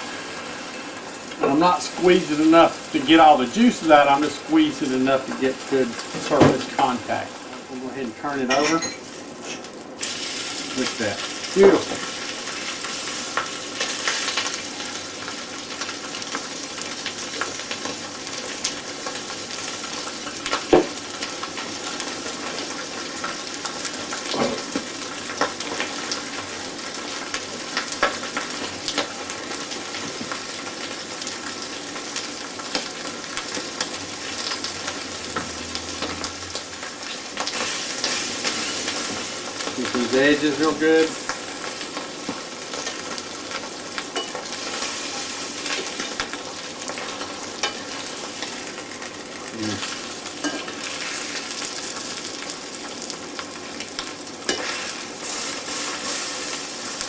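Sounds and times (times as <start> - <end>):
steak sizzling in a skillet: 0.0 - 57.0.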